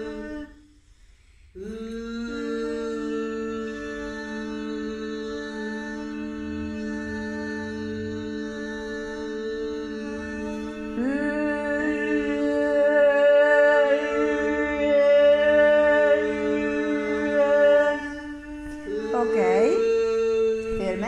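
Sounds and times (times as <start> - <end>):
woman humming sustained tone: 0.0 - 0.6, 1.6 - 21.0.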